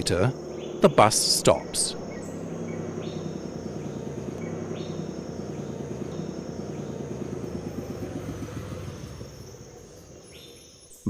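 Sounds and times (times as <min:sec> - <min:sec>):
bus engine rumbling: 0:00.0 - 0:10.7
insects chirring: 0:00.0 - 0:11.0.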